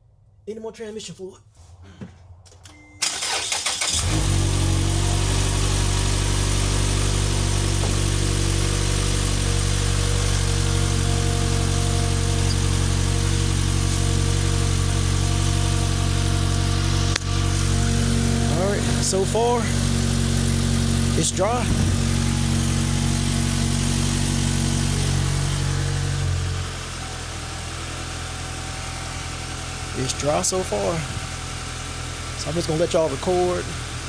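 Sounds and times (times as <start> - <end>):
car engine starting and idling: 2.5 - 34.0.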